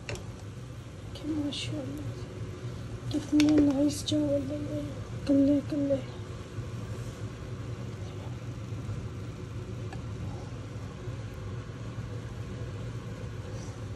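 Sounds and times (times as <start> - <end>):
low mechanical hum: 0.0 - 13.9.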